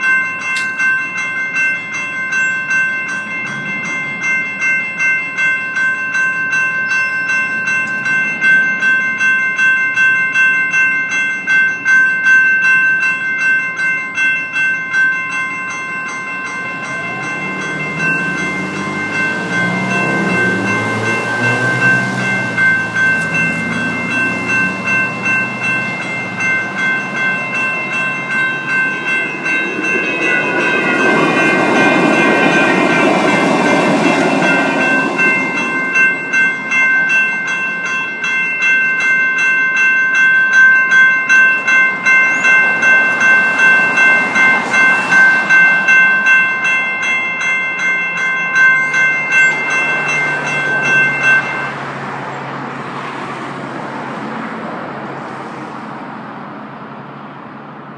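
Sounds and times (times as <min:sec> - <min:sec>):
light rail train rumble: 0:00.0 - 0:57.9
railroad crossing bells ringing: 0:00.0 - 0:57.9.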